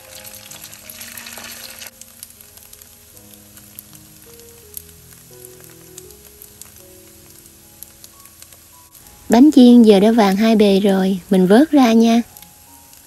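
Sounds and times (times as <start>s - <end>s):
food sizzling in a pan: 0.0s - 13.0s
oil crackling and popping: 0.0s - 13.0s
soft background music: 0.0s - 13.0s.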